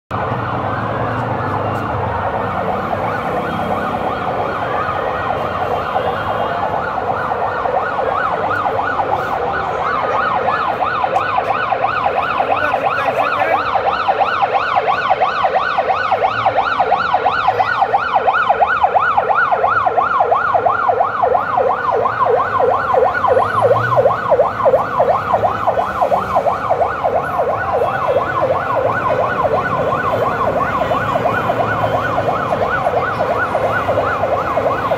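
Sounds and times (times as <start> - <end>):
emergency sirens yelping: 0.1 - 34.9.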